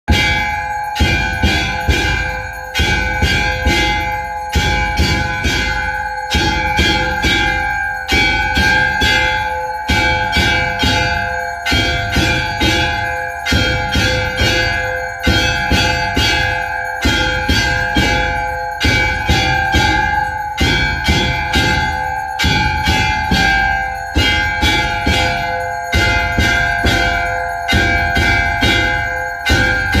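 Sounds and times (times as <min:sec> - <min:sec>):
temple bells ringing: 0:00.1 - 0:30.0.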